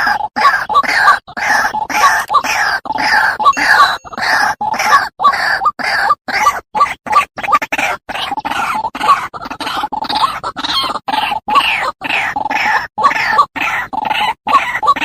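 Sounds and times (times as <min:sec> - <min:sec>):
waterhen harsh croaking calls: 0:00.0 - 0:15.0.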